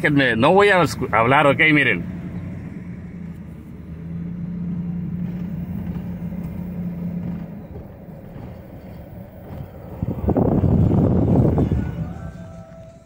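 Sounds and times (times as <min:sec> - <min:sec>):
pickup engine and road noise: 0:00.0 - 0:13.0.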